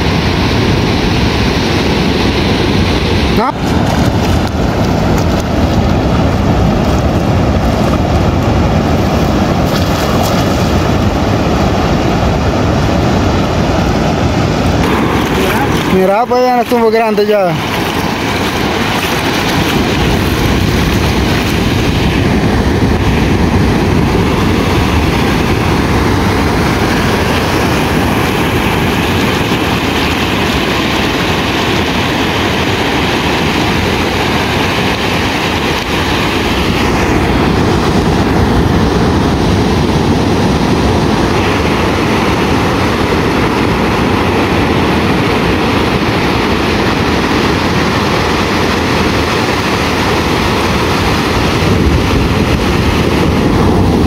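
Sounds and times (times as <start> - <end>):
ocean surf breaking: 0.0 - 54.0
wind rumble on microphone: 0.0 - 54.0.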